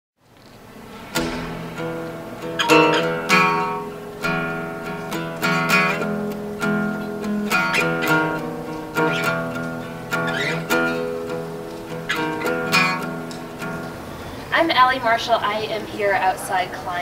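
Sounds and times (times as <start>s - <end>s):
acoustic guitar strumming: 0.6s - 15.2s.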